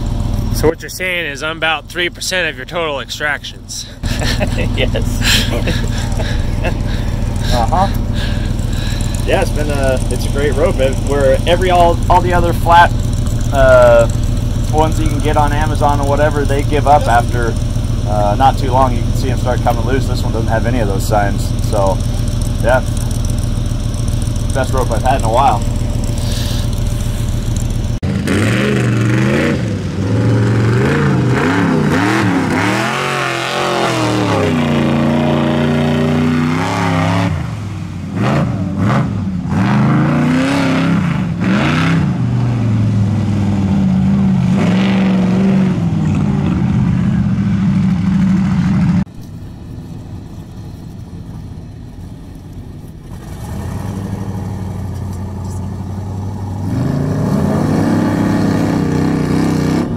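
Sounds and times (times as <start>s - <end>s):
truck engines revving hard: 0.0s - 49.1s, 50.4s - 59.9s.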